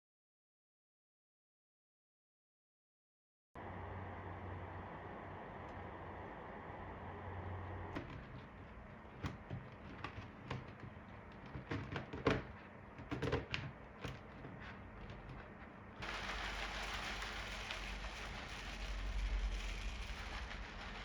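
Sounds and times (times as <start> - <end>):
air purifier fan rushing: 3.6 - 21.0.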